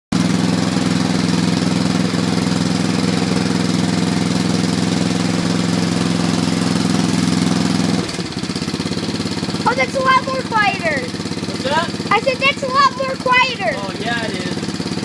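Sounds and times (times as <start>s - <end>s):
small engine running: 0.1s - 15.0s.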